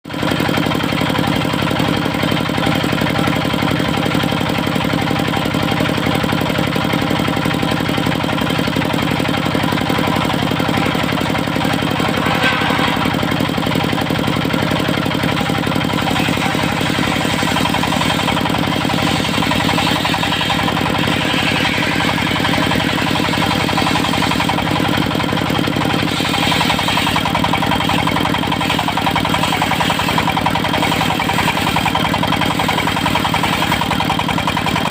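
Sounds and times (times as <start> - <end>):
sawmill engine running: 0.1 - 34.9.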